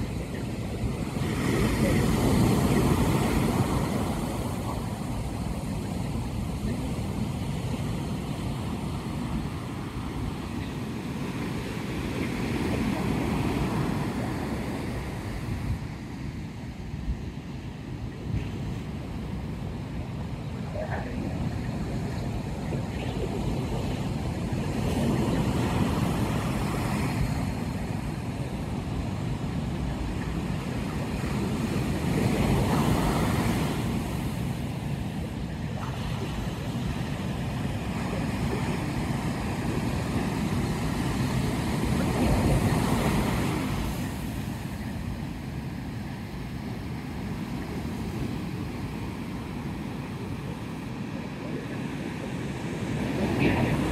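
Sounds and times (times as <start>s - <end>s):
surf breaking on beach: 0.0s - 53.9s.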